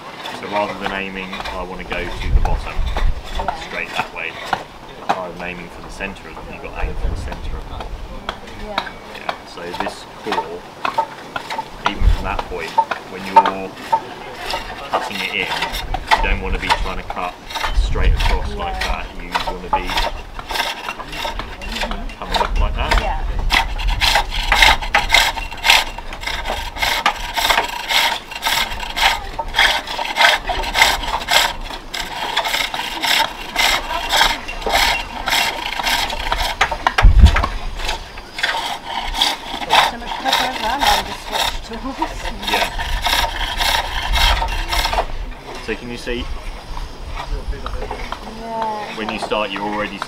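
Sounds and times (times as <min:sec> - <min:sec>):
tool scraping wood: 0:00.0 - 0:50.0.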